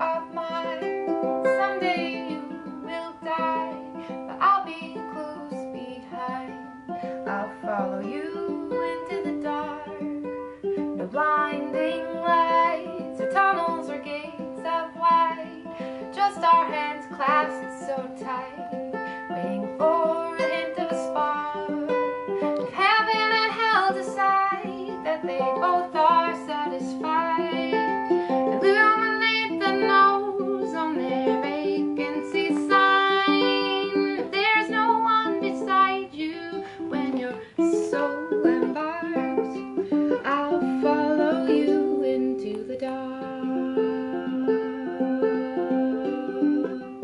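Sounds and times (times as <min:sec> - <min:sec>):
person singing: 0:00.0 - 0:47.0
ukulele picked notes: 0:00.0 - 0:47.0.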